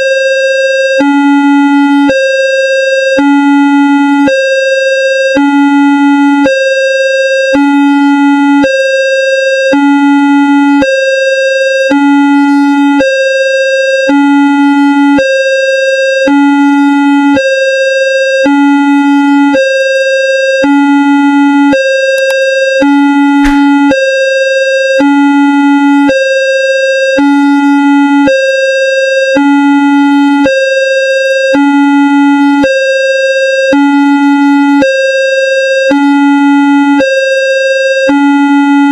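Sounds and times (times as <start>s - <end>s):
level-crossing alarm two tones: 0.0s - 38.9s.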